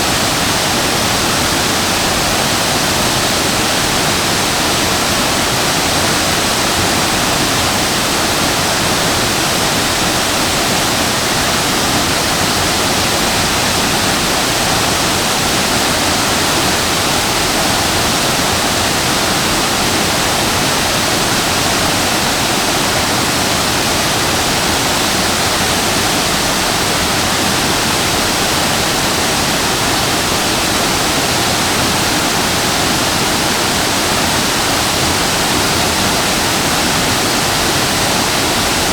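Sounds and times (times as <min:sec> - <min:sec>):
waterfall pouring: 0:00.0 - 0:38.9.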